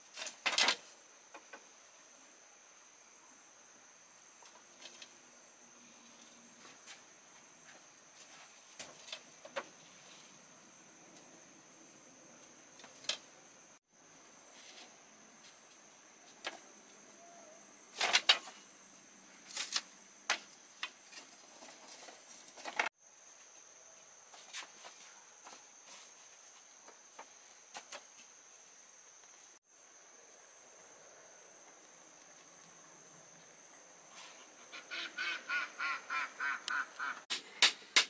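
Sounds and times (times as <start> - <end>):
insects trilling: 0.0 - 37.3.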